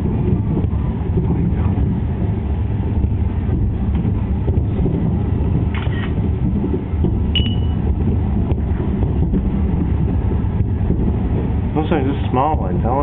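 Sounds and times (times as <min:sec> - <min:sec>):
distant fireworks rumble: 0:00.0 - 0:13.0.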